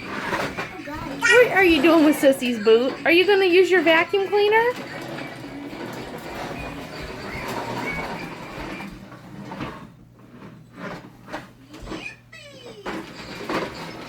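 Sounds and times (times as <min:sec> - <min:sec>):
toy vacuum cleaner rattling: 0:00.0 - 0:09.6, 0:10.8 - 0:14.0.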